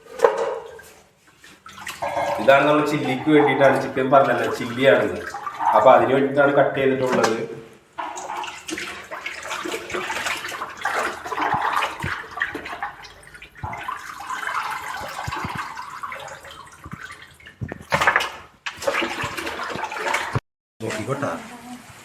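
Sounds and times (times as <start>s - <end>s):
water splashing and pouring: 0.0s - 22.0s.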